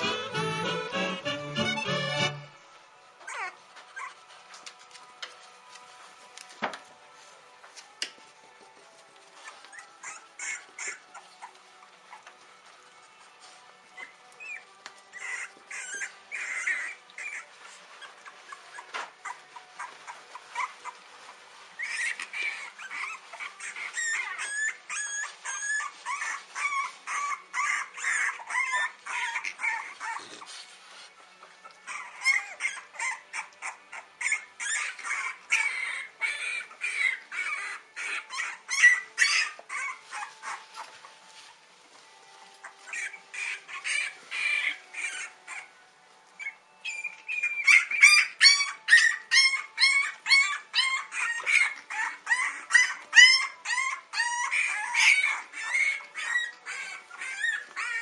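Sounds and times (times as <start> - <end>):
puppies squealing and whimpering: 0.0 - 2.5, 3.2 - 4.4, 9.2 - 58.0.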